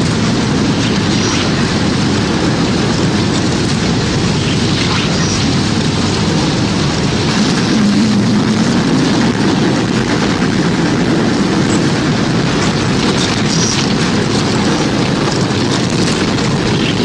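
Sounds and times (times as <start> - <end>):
rumbling wind roar: 0.0 - 17.0.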